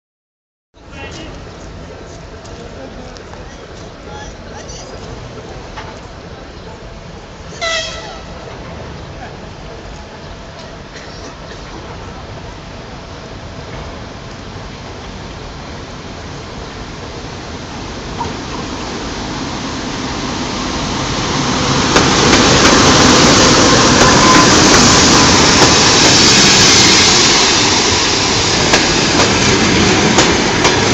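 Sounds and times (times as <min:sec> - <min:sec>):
diesel train rumble: 0:00.8 - 0:30.9.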